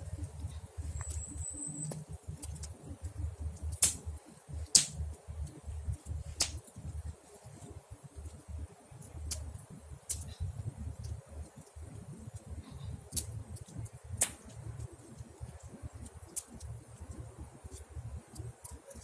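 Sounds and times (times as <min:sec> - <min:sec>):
low steady rumble: 0:00.0 - 0:19.0
wood popping and snapping in fire: 0:00.0 - 0:19.0.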